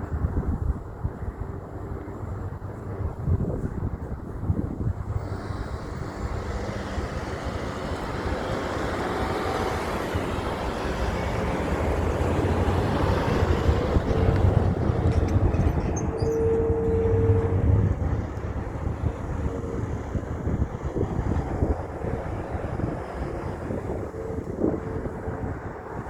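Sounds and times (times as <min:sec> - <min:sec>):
heavy truck driving by: 0:04.8 - 0:26.0.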